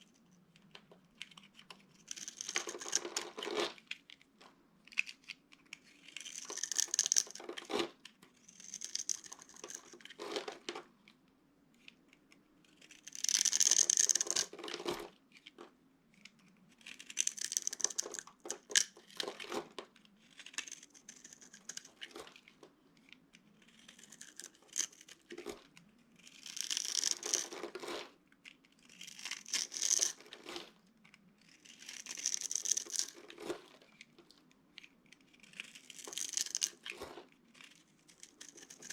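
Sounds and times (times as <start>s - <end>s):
dry soap crunching: 0.5s - 4.2s, 4.8s - 10.7s, 12.7s - 15.5s, 16.2s - 19.6s, 20.2s - 22.5s, 23.4s - 38.9s.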